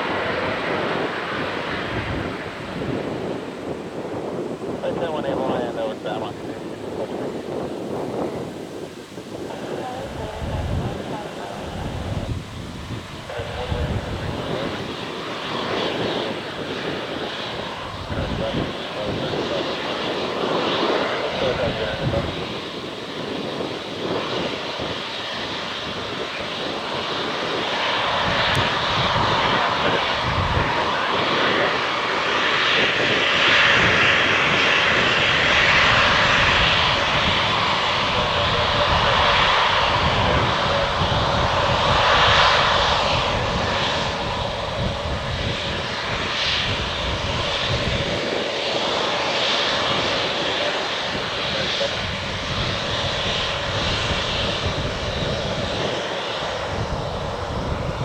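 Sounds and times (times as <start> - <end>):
airplane engine rushing: 0.0 - 58.0.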